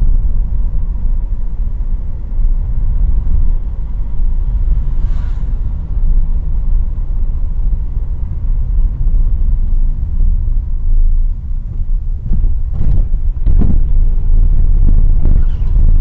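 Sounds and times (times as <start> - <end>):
road and engine noise inside car: 0.0 - 16.0.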